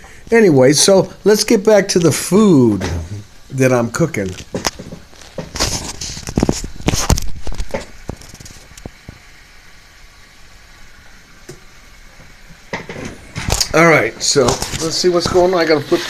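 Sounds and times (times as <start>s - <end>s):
steaks sizzling in a pan: 0.7s - 16.0s.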